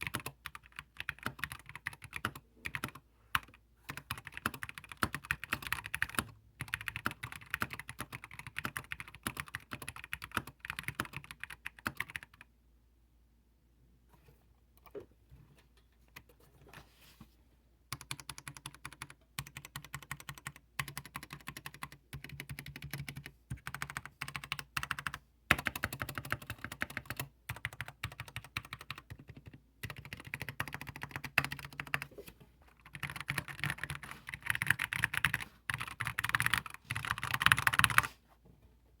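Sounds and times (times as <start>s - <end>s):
typing on computer keyboard: 0.0s - 12.5s, 17.9s - 32.1s, 32.8s - 38.1s.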